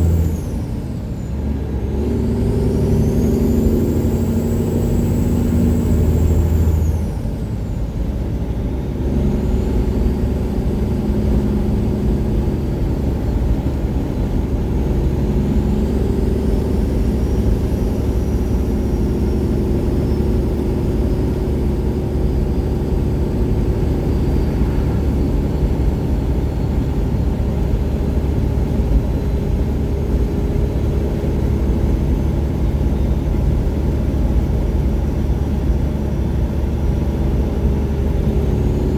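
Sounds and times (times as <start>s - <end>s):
diesel truck engine exhaust: 0.0s - 38.9s.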